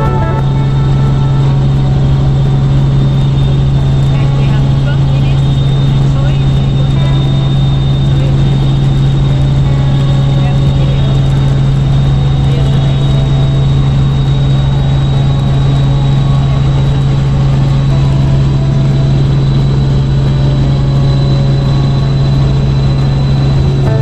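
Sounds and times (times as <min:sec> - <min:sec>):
aircraft drone: 0:00.0 - 0:24.0
high whine: 0:00.0 - 0:24.0.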